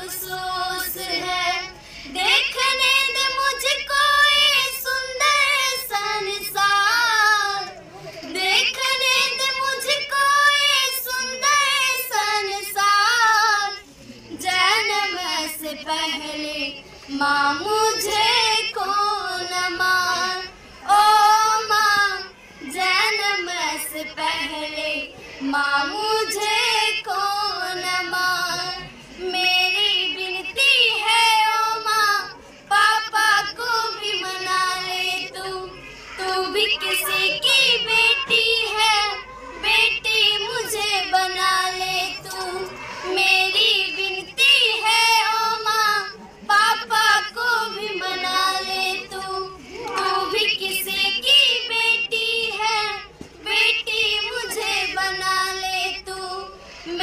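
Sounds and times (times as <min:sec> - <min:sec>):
high singing voice: 0:00.0 - 0:57.0.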